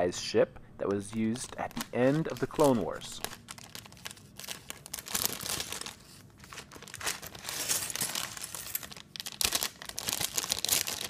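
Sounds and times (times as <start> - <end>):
plastic bag crinkling: 0.9 - 11.0.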